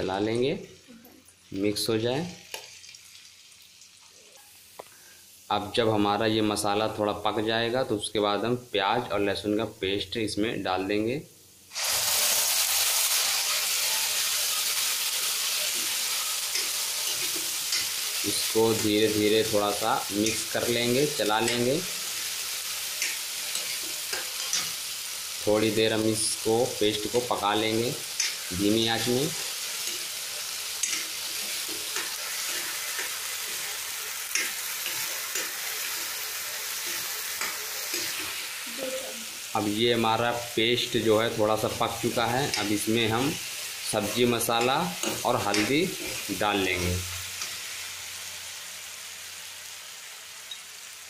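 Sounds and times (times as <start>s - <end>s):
paste sizzling in hot oil: 0.0s - 6.8s, 11.6s - 51.0s.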